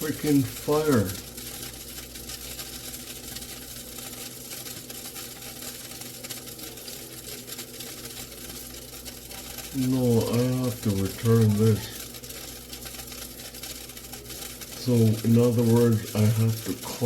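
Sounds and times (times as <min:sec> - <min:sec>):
burgers sizzling and crackling: 0:00.0 - 0:17.0
oven fan humming: 0:00.0 - 0:17.0.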